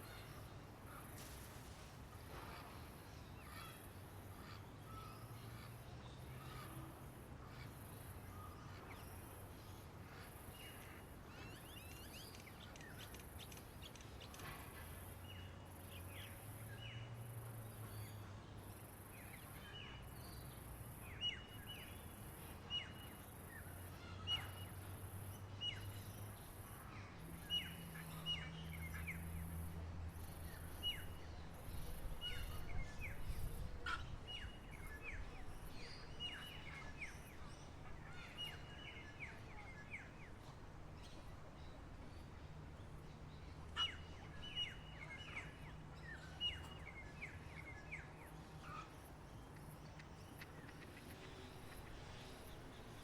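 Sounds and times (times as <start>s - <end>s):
wild birds chirping: 0.0s - 53.0s.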